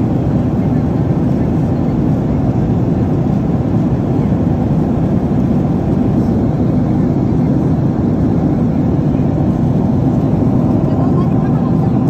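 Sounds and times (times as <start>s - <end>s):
airliner cabin engine hum: 0.0s - 12.0s.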